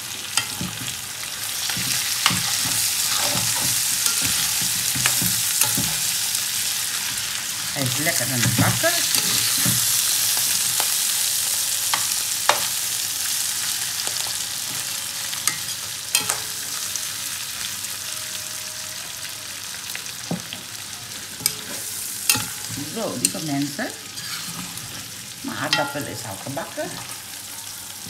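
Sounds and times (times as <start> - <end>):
potatoes sizzling in hot oil: 0.0 - 28.0.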